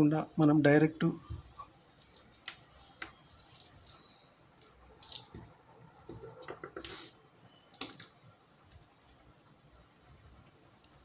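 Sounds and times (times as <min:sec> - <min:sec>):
light string wires rustling and clicking: 0:01.2 - 0:11.0.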